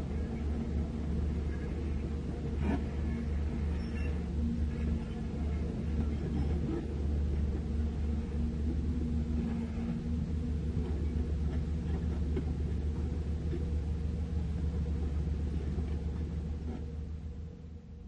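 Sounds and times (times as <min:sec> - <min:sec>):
excavator diesel engine rumble: 0:00.0 - 0:18.0.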